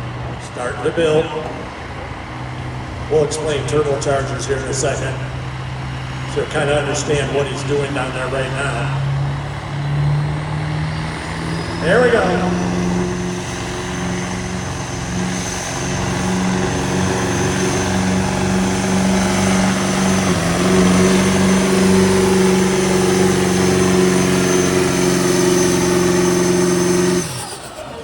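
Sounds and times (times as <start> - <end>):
diesel engine under heavy load: 0.0 - 28.0.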